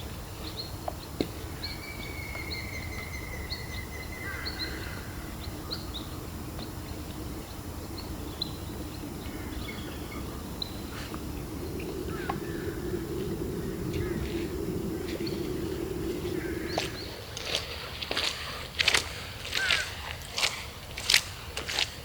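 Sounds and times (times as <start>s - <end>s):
rain hiss: 0.0s - 19.4s
small birds chirping: 0.4s - 19.9s.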